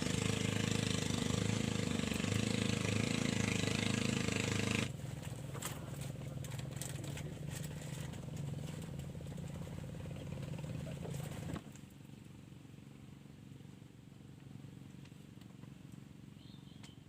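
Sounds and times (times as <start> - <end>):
small engine running: 0.0 - 16.8.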